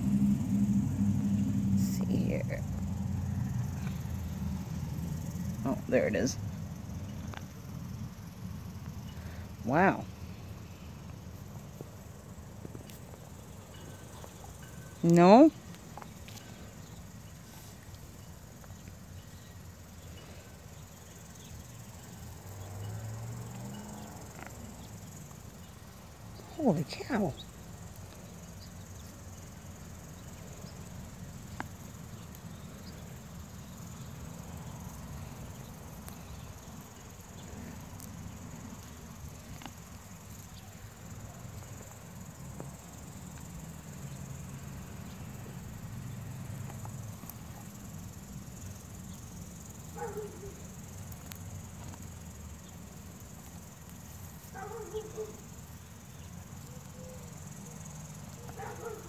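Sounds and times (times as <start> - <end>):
crickets chirping: 0.0 - 59.0
rustling of soil and leaves: 0.0 - 59.0.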